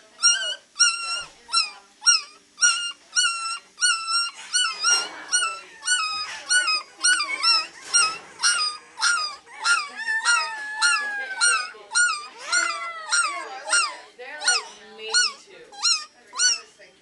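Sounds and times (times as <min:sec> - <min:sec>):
puppy howling yelps: 0:00.2 - 0:16.6.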